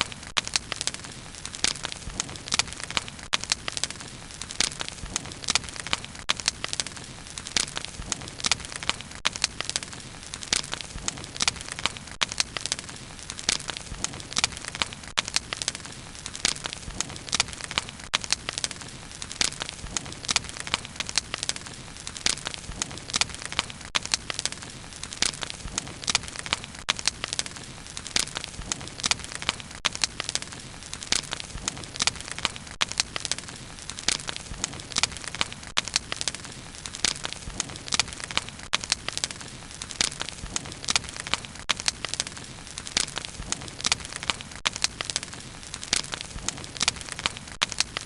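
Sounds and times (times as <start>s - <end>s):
bonfire crackling: 0.0s - 48.0s
soft hiss of fire: 0.0s - 48.0s.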